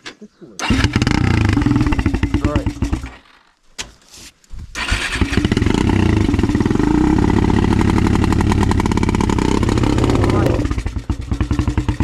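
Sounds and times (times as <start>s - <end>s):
quad engine revving: 0.6s - 3.2s, 4.8s - 12.0s.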